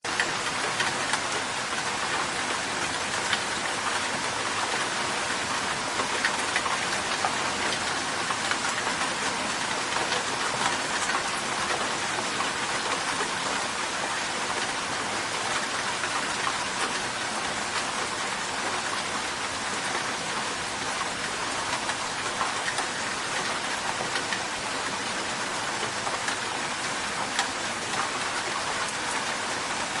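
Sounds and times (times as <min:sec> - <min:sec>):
steady rain hiss: 0:00.1 - 0:30.0.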